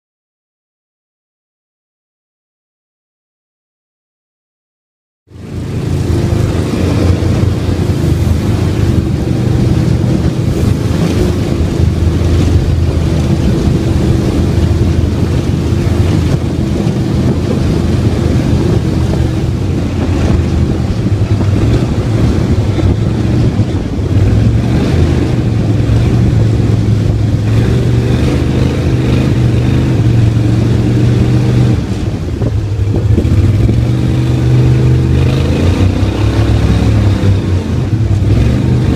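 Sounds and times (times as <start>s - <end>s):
boat motor running: 5.3s - 38.9s.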